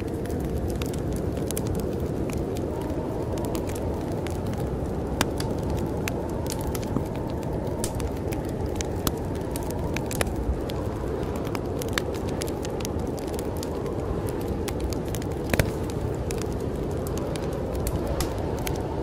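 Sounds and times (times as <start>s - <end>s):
snowstorm wind rushing: 0.0s - 19.0s
wood fire crackling: 0.0s - 19.0s.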